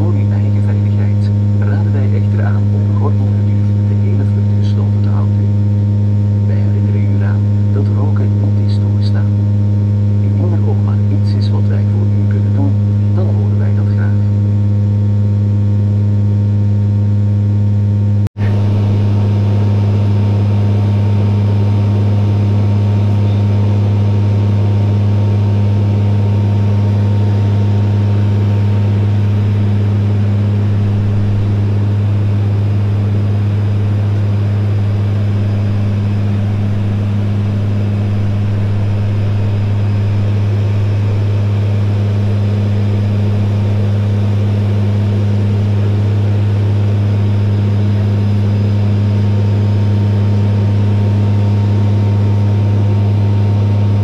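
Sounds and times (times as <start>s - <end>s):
turboprop engines droning in flight: 0.0s - 54.0s.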